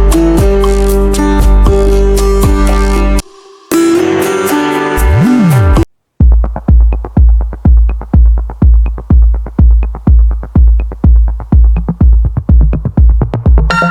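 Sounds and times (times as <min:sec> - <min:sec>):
electronic music with heavy beat: 0:00.0 - 0:13.9.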